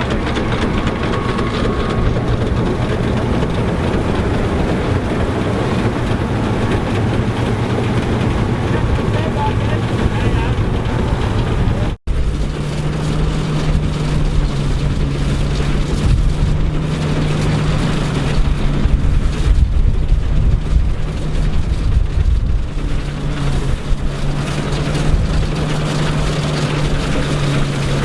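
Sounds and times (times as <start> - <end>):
farm machinery engine humming: 0.0 - 28.0.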